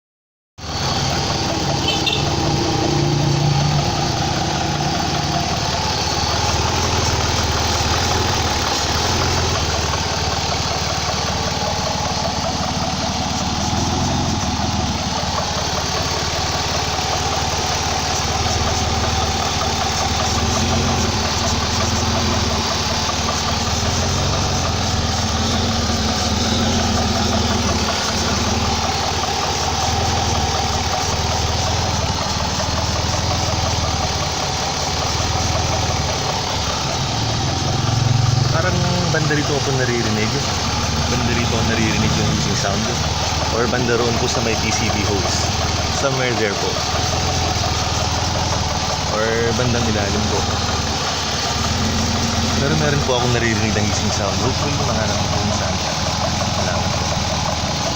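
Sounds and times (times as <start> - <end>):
car engine idling: 0.6 - 57.9.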